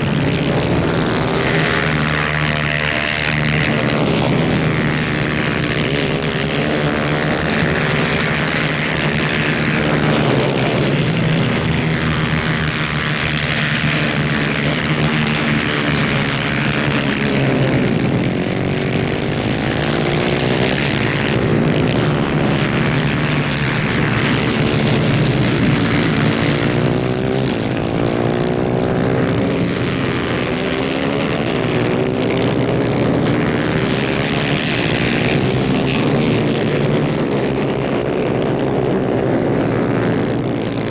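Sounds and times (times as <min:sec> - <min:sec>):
kart engines racing at high revs: 0:00.0 - 0:40.9.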